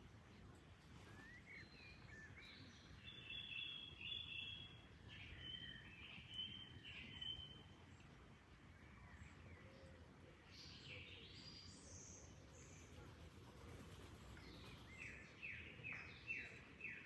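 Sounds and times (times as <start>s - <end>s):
faint low background noise: 0.0s - 17.0s.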